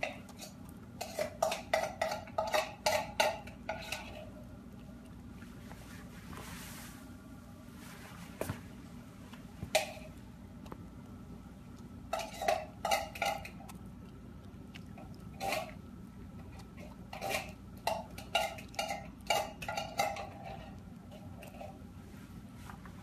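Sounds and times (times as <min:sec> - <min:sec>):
pet crunching dry food: 0:00.0 - 0:06.4, 0:08.8 - 0:22.6.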